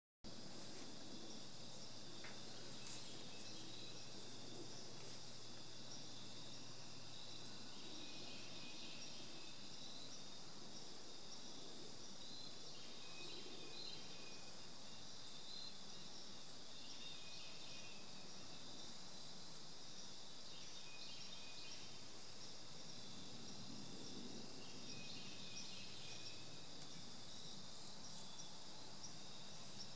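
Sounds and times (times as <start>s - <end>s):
faint low hum: 0.3s - 29.9s
insect chorus trilling: 0.4s - 29.9s.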